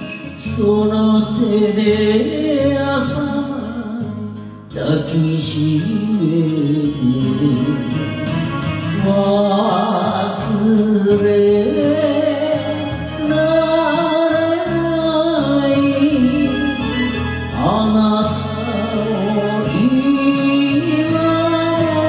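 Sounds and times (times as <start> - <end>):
karaoke backing track: 0.0 - 22.0
man singing into microphone: 0.0 - 22.0.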